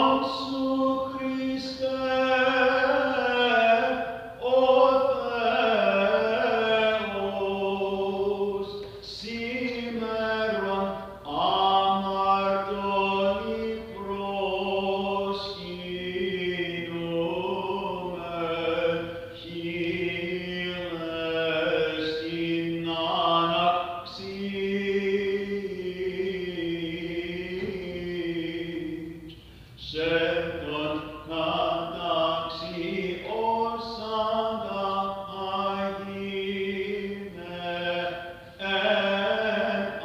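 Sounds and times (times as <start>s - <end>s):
low vocal drone: 0.0s - 40.0s
melismatic chant singing: 0.0s - 40.0s.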